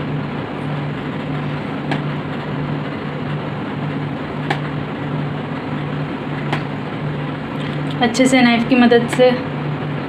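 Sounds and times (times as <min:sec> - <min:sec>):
machine hum and hiss: 0:00.0 - 0:10.0.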